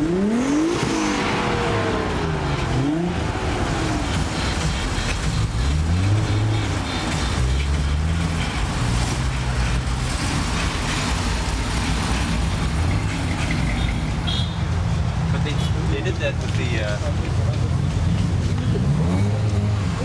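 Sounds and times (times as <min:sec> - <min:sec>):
car engine revving: 0:00.0 - 0:13.8, 0:17.6 - 0:20.0
other engines running: 0:00.0 - 0:20.0.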